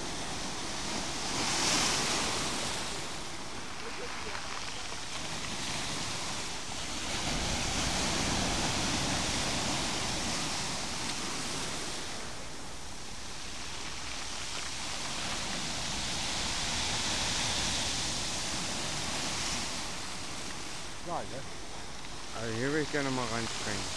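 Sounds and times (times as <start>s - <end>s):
waves breaking on pebbly shore: 0.0s - 23.9s.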